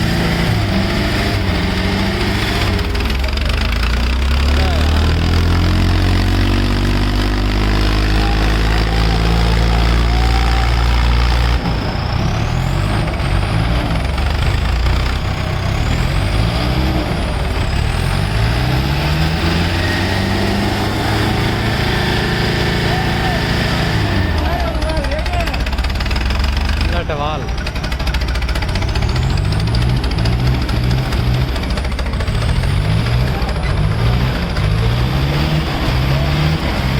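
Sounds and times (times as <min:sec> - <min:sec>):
diesel tractor engines under load: 0:00.0 - 0:36.9.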